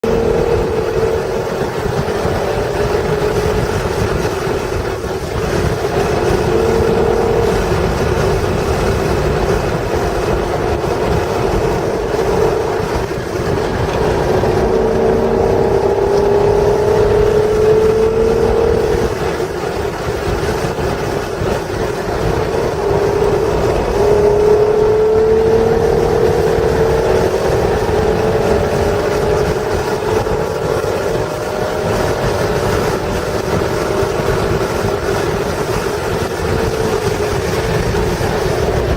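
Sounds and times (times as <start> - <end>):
car engine running hard: 0.0 - 38.9
road and wind noise: 0.0 - 38.9.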